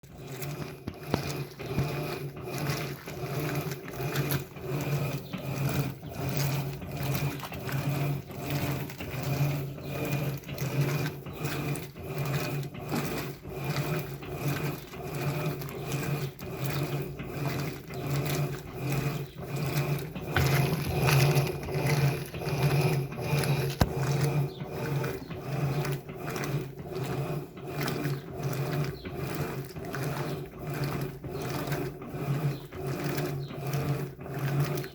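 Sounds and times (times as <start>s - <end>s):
agitator swishing: 0.0s - 34.9s
washing machine motor humming: 0.0s - 34.9s.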